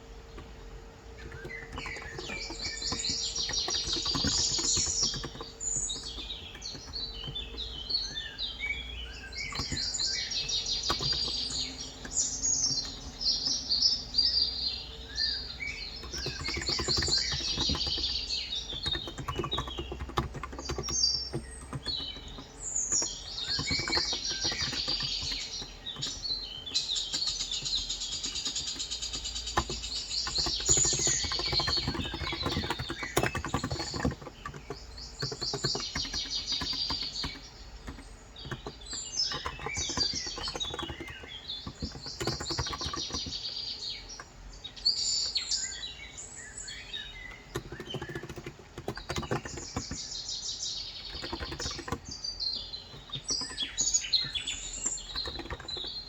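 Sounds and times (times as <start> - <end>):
birds chirping and trilling: 0.0 - 56.0
keyboard typing clicks: 0.3 - 13.8, 15.4 - 44.4, 46.7 - 50.2, 50.9 - 56.0.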